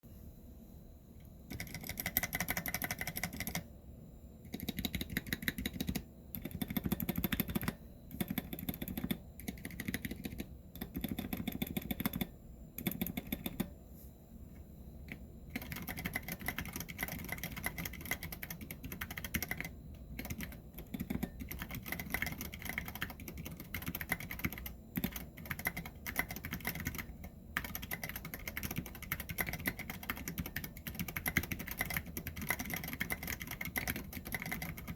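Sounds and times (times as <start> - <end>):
fast typing on mechanical keyboard: 1.5 - 3.6, 4.5 - 13.7, 15.5 - 34.9.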